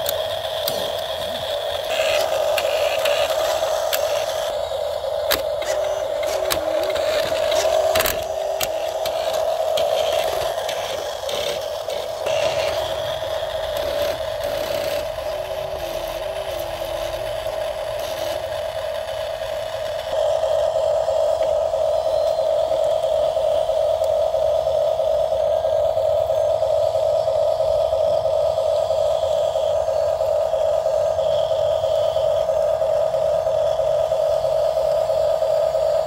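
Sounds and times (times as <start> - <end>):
toy truck electric motor whining: 0.0 - 36.0.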